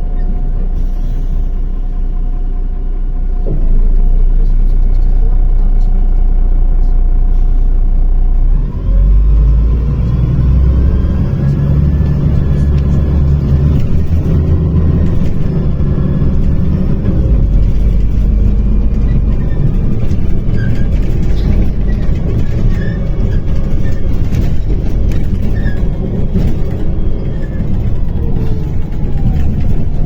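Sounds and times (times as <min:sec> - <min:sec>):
bus engine accelerating: 0:00.0 - 0:30.0.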